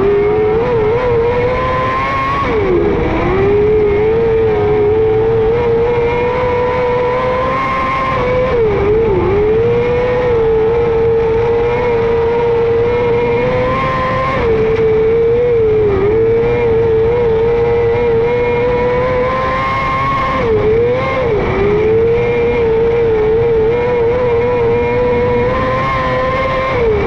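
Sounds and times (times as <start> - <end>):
motorcycle engine at high revs: 0.0 - 27.0.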